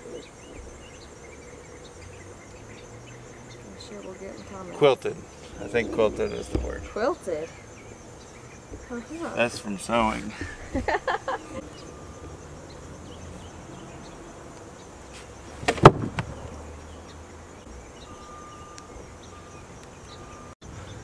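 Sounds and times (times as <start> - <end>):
faint insect buzzing: 0.0 - 21.0.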